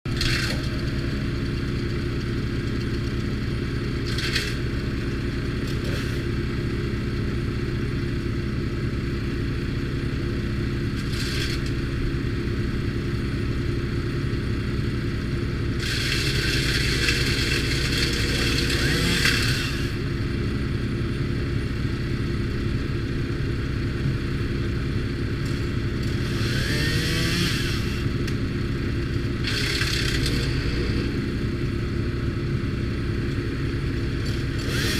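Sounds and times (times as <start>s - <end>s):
wood chipper chipping material: 0.1s - 34.9s
wood chipper engine running: 0.1s - 34.9s.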